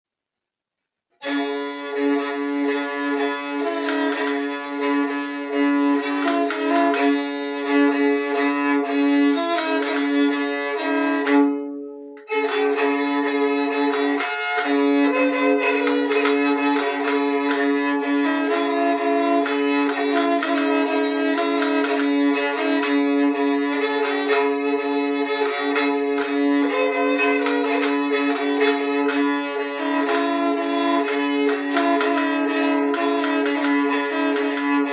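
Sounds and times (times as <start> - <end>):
bowed keyed fiddle melody with drone: 1.2 - 34.9.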